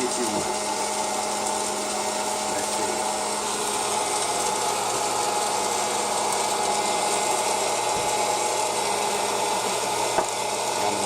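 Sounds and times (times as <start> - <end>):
popcorn popper fan whirring: 0.0 - 11.0.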